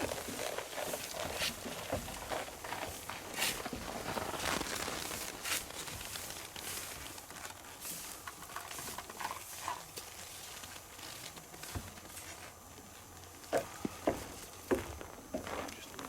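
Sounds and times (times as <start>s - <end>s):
small rustles: 0.0s - 13.5s
footsteps outdoors: 0.0s - 16.0s.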